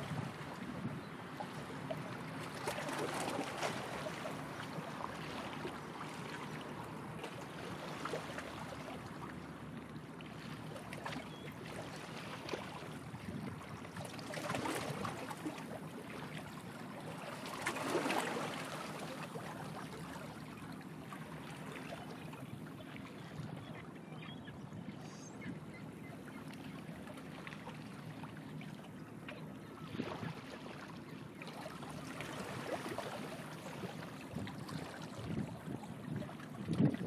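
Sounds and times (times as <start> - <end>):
small waves lapping: 0.0 - 37.0.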